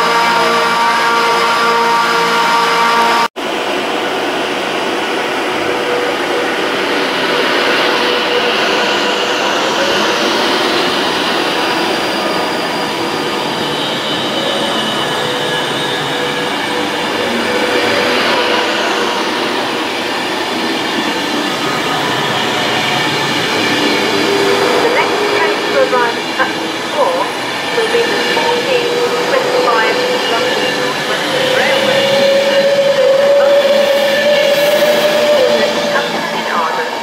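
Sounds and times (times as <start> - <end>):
electric train hum: 0.0 - 37.0
electric train whine: 0.0 - 37.0
train wheels rumbling on rails: 0.0 - 37.0.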